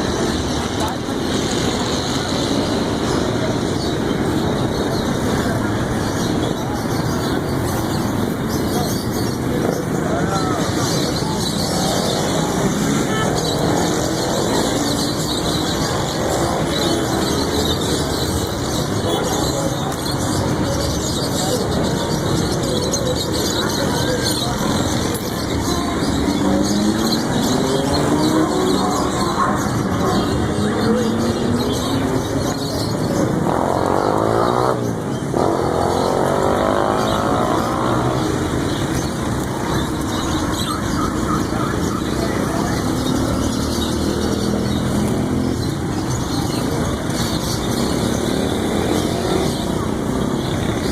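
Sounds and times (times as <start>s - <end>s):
motor vehicles passing: 0.0s - 50.9s
traffic hum: 0.0s - 50.9s.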